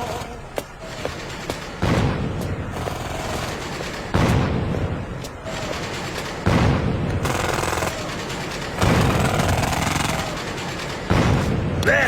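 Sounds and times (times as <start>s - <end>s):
gunshot bangs: 1.5s - 11.8s.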